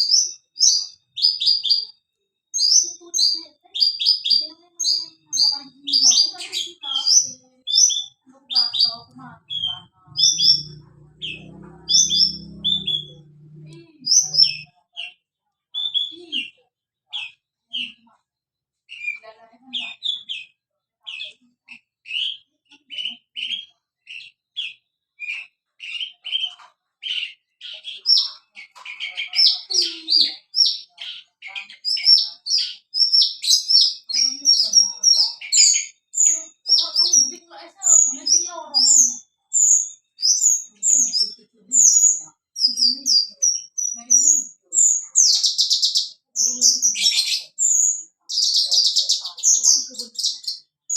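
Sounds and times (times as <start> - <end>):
bird chirping song: 0.0 - 18.1, 18.9 - 50.9.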